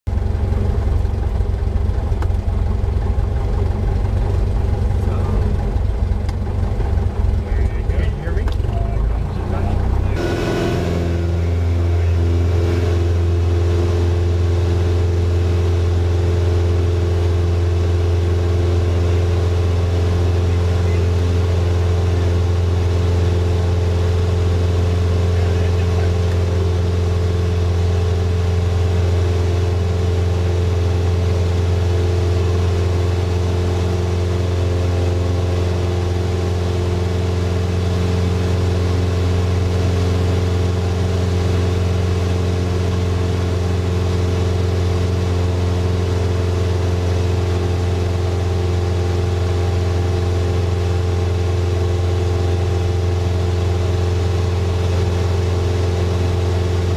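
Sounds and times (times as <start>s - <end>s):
propeller plane engine drone: 0.0s - 56.9s.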